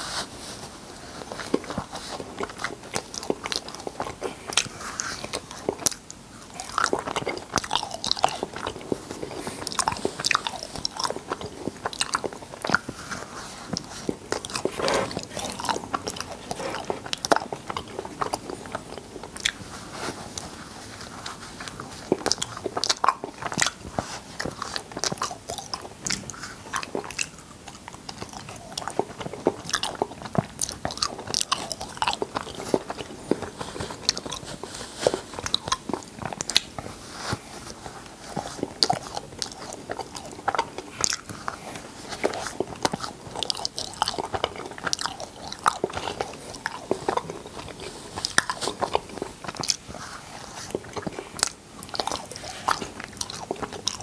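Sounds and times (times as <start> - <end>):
mouth clicks and smacks chewing: 1.2 - 54.0.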